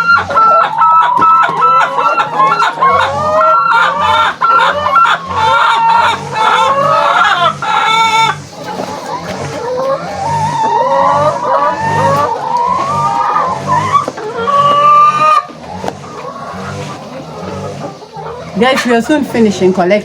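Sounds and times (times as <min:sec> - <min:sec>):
hens clucking and calling: 0:00.0 - 0:20.0.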